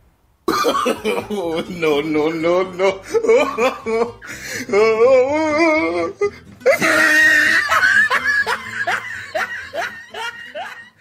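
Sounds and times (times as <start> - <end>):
person laughing: 0.5 - 11.0.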